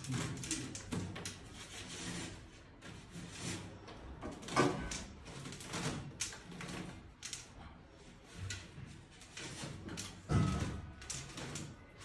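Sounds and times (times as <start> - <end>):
metal duct pipe crinkling and scraping: 0.0 - 12.0.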